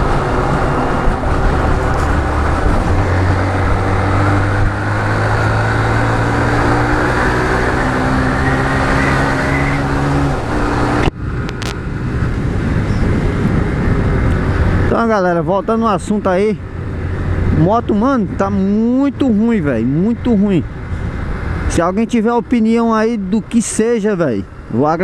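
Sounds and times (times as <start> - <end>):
road and wind rush: 0.0 - 25.0.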